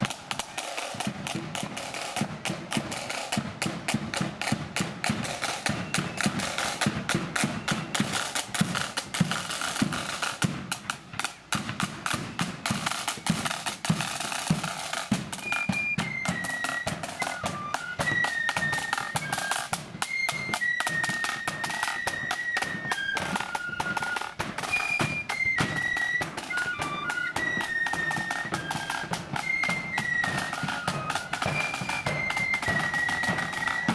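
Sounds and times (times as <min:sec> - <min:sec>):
snare and bass drums: 0:00.0 - 0:33.9
flutes playing high melody: 0:02.8 - 0:10.4, 0:12.3 - 0:33.9.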